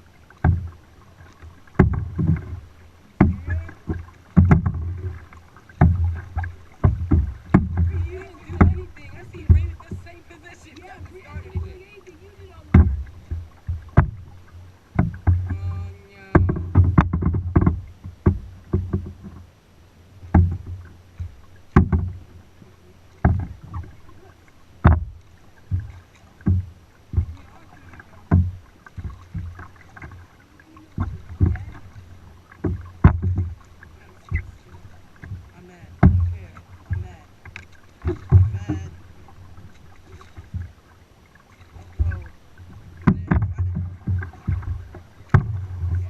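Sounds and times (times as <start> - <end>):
kayak paddle strokes splashing: 0.0 - 46.0
water lapping against boat: 0.0 - 46.0.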